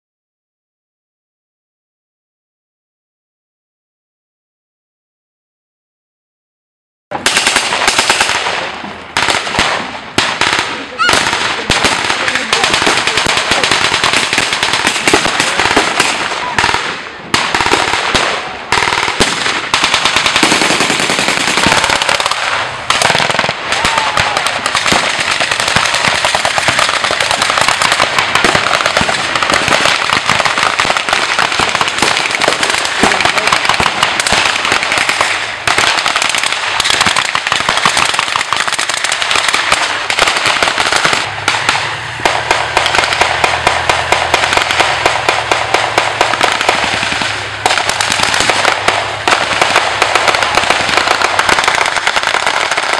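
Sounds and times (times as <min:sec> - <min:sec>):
guns firing blanks in volleys: 0:07.2 - 0:52.9.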